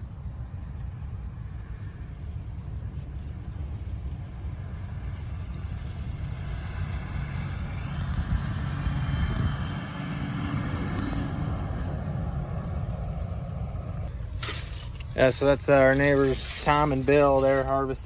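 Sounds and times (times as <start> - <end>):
tractor engine running: 0.0 - 18.0
vehicle engine approaching: 0.0 - 18.0.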